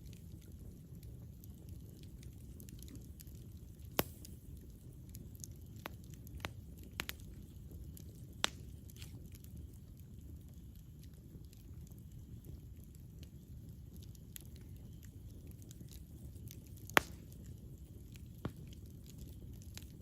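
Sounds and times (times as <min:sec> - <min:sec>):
campfire rushing: 0:00.0 - 0:20.0
wood pops and crackles: 0:00.0 - 0:20.0.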